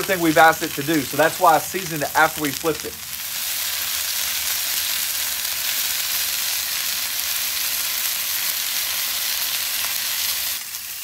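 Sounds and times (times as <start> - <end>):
steaks sizzling on a griddle: 0.0 - 11.0.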